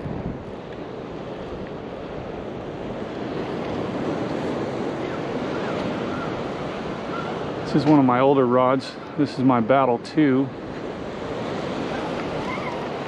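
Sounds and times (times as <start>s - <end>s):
wind on microphone: 0.0s - 8.0s, 10.5s - 13.0s
ocean surf breaking: 0.0s - 13.0s.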